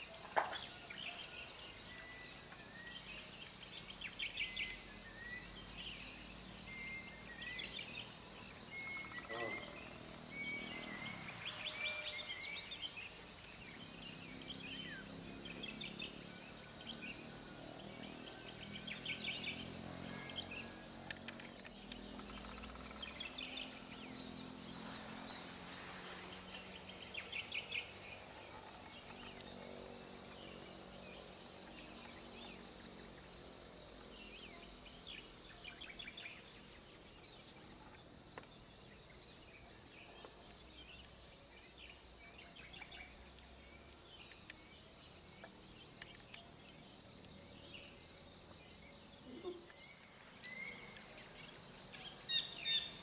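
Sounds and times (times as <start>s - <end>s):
birds chirping trills: 0.0s - 53.0s
insect drone: 0.0s - 53.0s.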